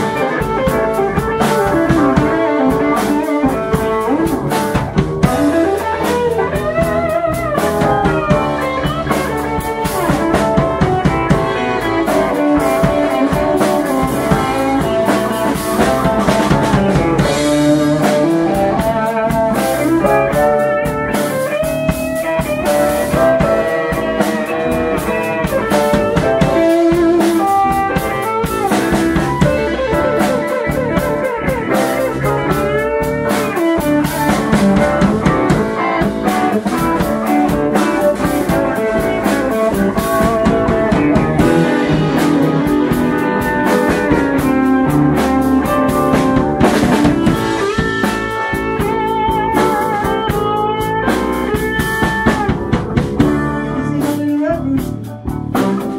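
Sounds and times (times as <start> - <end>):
drum kit: 0.0 - 55.9
electric bass: 0.0 - 55.9
keyboards: 0.0 - 55.9
lead melody with bending notes: 0.0 - 55.9.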